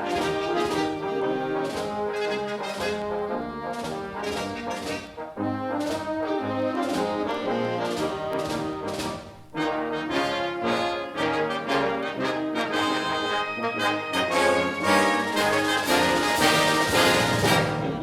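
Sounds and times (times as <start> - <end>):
brass band music: 0.0 - 18.0.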